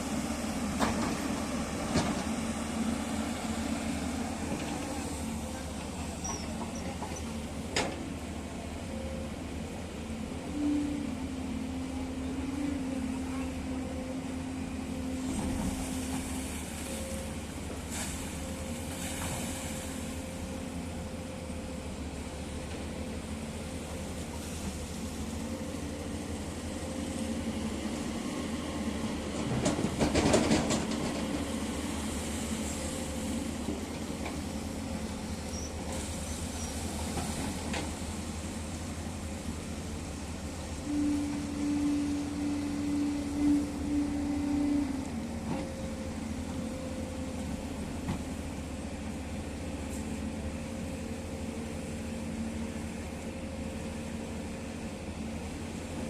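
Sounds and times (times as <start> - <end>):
excavator diesel engines running: 0.0 - 56.0.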